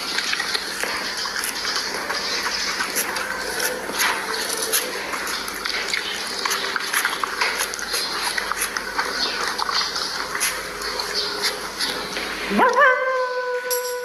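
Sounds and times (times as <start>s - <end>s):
dog chewing wetly: 0.0s - 12.6s.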